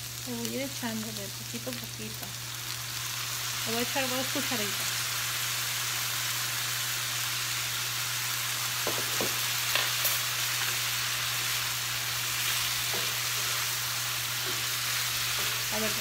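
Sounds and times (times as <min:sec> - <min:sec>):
chicken sizzling in pan: 0:00.0 - 0:16.0.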